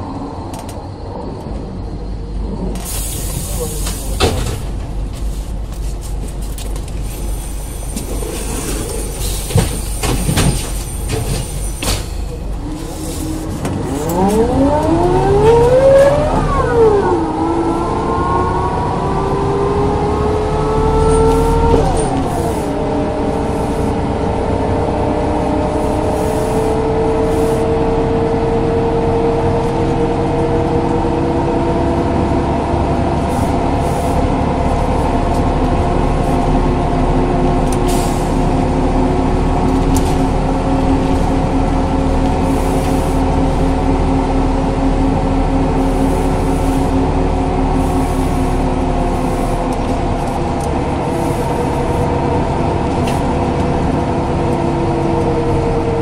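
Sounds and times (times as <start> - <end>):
bus diesel engine and gearbox whine: 0.0 - 56.0.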